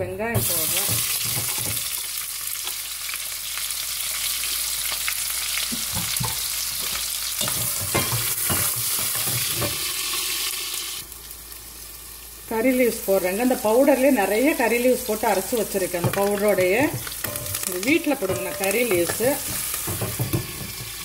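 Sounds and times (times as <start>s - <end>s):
onions sizzling in hot oil: 0.4s - 21.0s.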